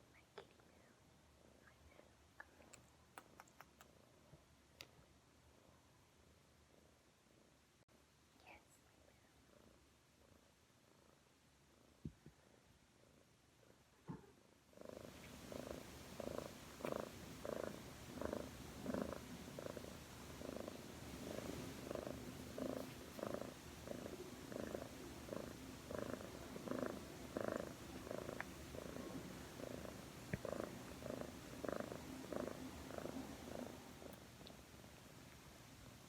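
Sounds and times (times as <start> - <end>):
cat purring: 5.4 - 7.8, 8.5 - 35.5.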